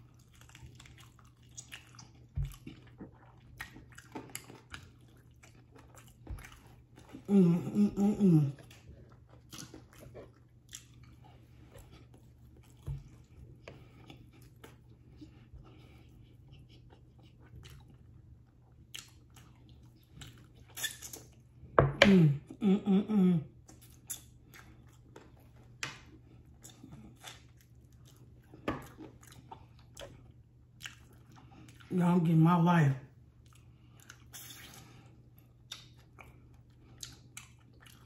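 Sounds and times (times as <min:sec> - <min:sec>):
wet chewing and lip smacks: 0:00.0 - 0:07.3, 0:08.6 - 0:21.5, 0:23.6 - 0:31.9, 0:33.3 - 0:38.0.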